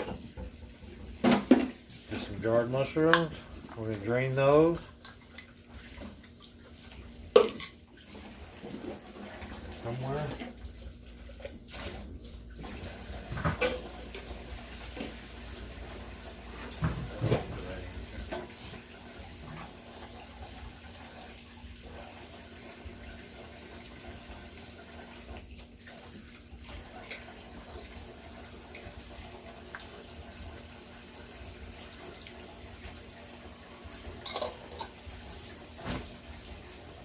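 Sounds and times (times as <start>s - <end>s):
tap water running into sink: 0.0s - 37.0s.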